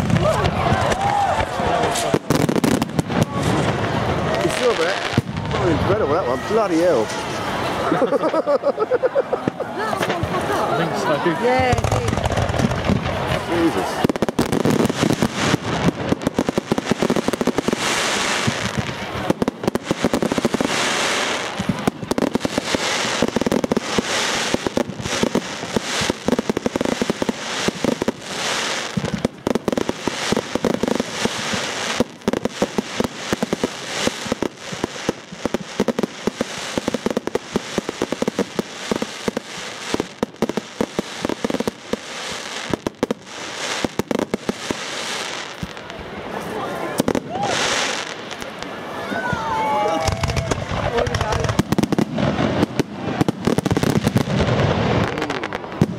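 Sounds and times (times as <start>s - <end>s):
firework bangs: 0.0s - 55.9s
firework crackling and hissing: 0.0s - 55.9s.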